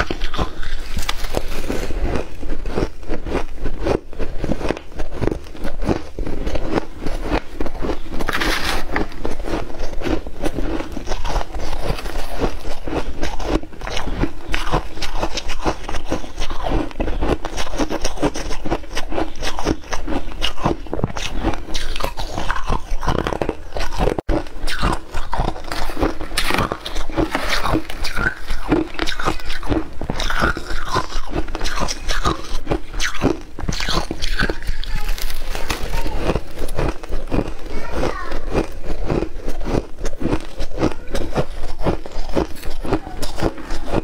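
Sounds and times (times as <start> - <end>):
crunching ice chewing: 0.0 - 44.0.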